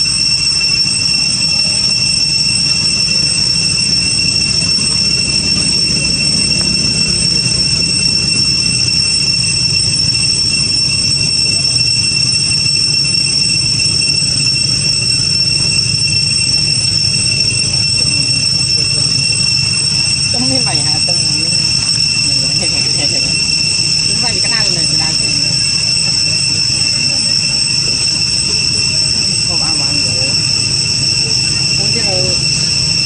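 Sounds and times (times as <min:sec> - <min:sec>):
cicadas droning: 0:00.0 - 0:33.0
low steady rumble: 0:01.0 - 0:33.0.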